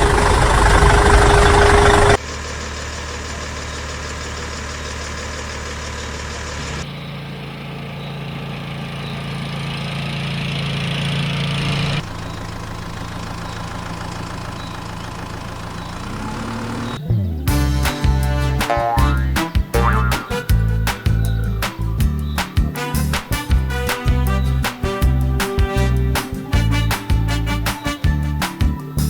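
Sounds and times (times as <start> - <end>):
engine idling and revving: 0.0 - 29.0.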